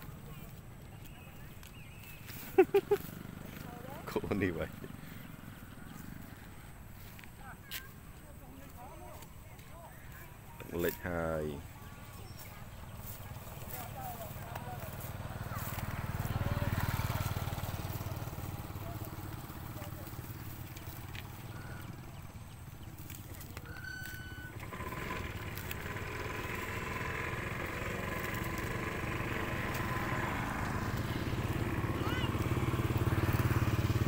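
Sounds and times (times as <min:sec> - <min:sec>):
small motorcycle engine running: 0:00.0 - 0:09.2, 0:09.9 - 0:34.0.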